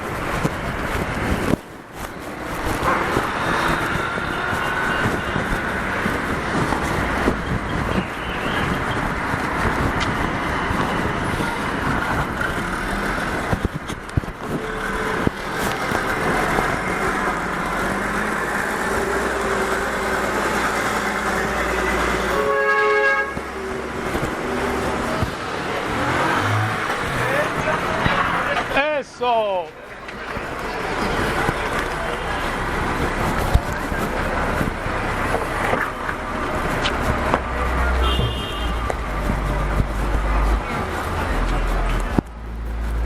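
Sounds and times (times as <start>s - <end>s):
passing street traffic: 0.0s - 43.0s.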